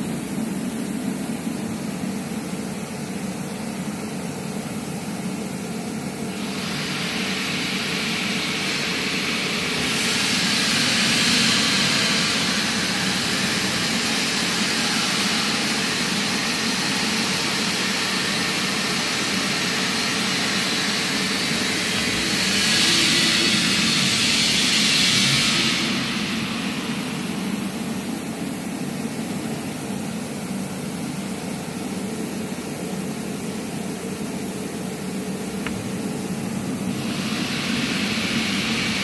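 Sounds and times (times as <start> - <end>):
machining center hiss and whine: 0.0 - 39.0.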